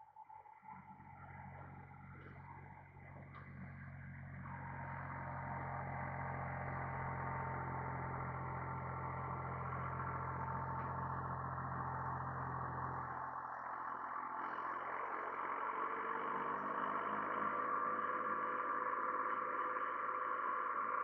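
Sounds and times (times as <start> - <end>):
rotary cutter high whine: 0.7 - 21.0
tractor diesel engine running: 0.8 - 21.0.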